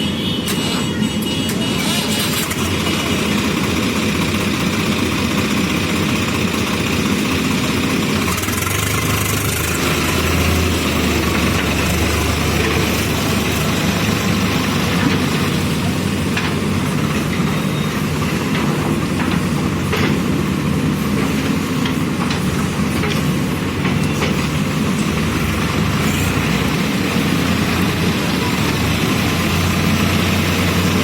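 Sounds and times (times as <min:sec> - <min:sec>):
diesel engine running: 0:00.2 - 0:31.0.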